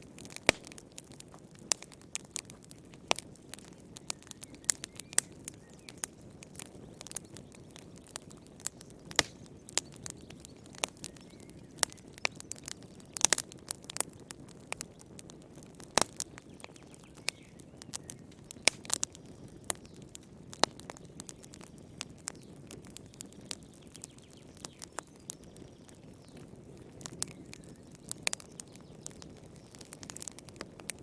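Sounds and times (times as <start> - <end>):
campfire crackling and popping: 0.0 - 31.0
soft hiss of flames: 0.0 - 31.0.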